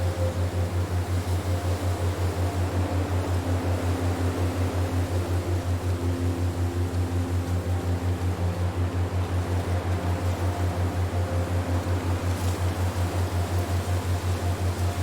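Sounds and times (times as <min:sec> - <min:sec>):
pulsing electronic drone: 0:00.0 - 0:15.0.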